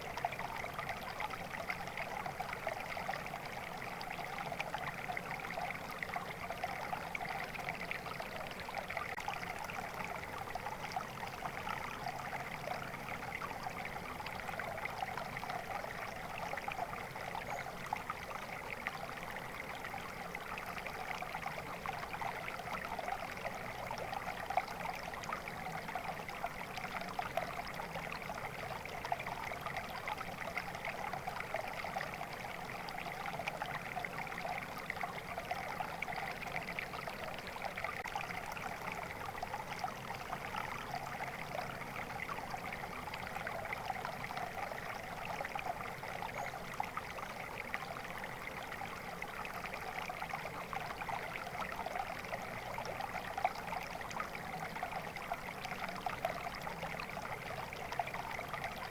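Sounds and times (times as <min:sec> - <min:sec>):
stream trickling over stones: 0:00.0 - 0:58.9.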